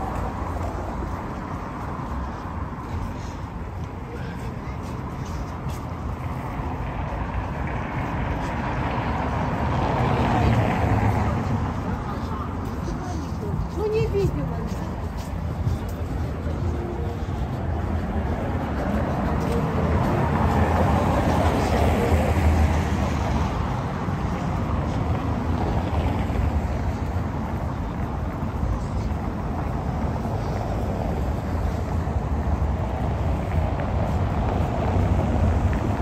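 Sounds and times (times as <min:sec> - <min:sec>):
cars driving on wet cobblestones: 0:00.0 - 0:36.0.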